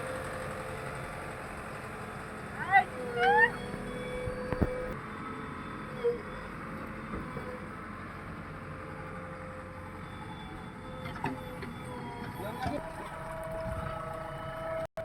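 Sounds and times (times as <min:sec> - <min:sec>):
heavy machinery engine running: 0:00.0 - 0:14.9.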